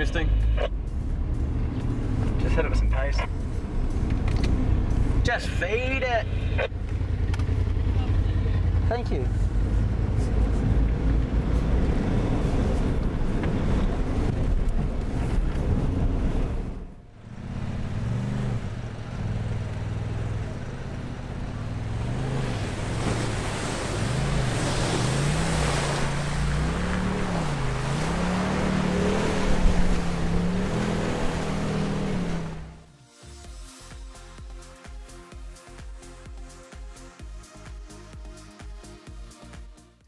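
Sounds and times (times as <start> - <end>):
off-road vehicle engine: 0.0 - 33.6.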